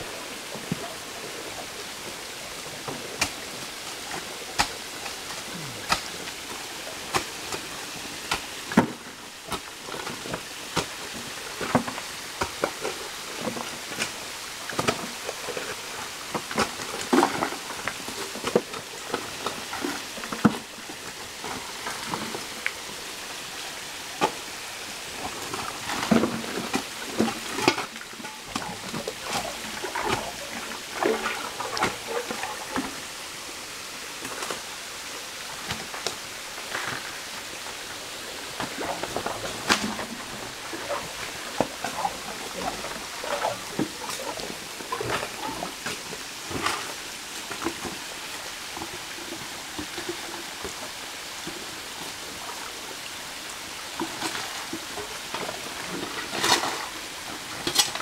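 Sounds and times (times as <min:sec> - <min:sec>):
stream rushing: 0:00.0 - 0:58.0.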